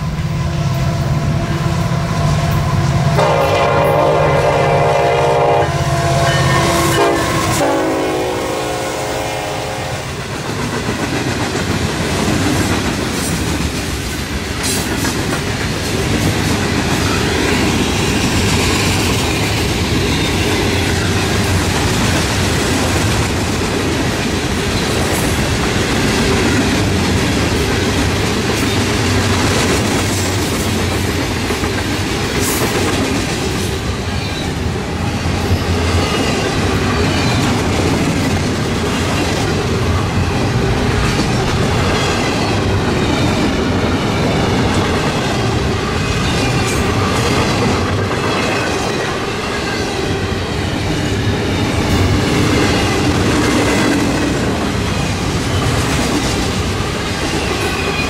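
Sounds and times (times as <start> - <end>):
clickety-clack over rail joints: 10.2 - 34.6, 35.3 - 58.0.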